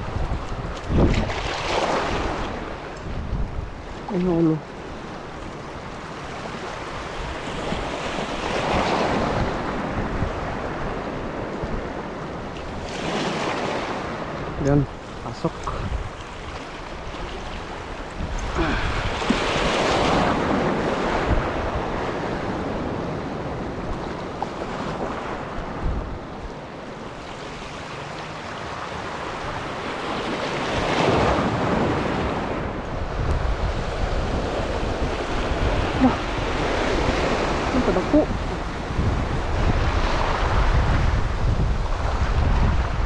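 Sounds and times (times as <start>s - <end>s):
wind buffeting microphone: 0.0s - 27.7s, 28.7s - 43.0s
sea waves on rocky shore: 0.0s - 43.0s.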